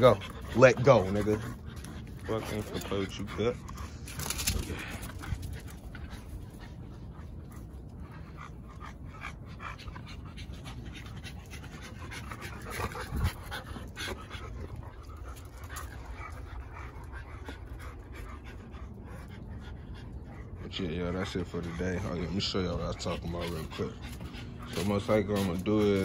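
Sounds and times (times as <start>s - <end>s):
dog panting: 0.0s - 26.0s.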